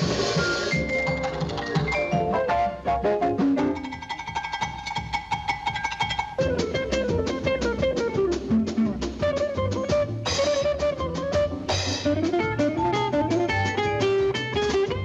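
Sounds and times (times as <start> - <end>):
cartoon music with guitar and drums: 0.0 - 15.0.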